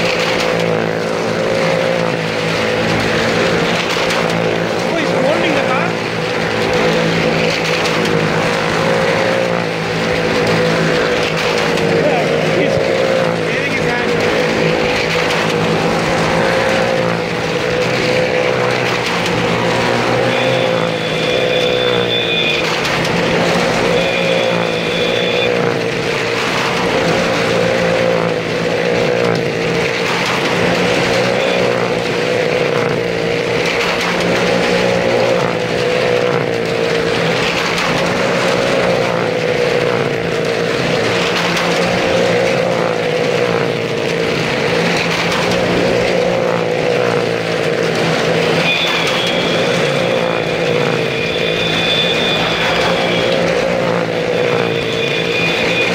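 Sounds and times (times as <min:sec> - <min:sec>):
motorcycle and car engines circling: 0:00.0 - 0:55.9.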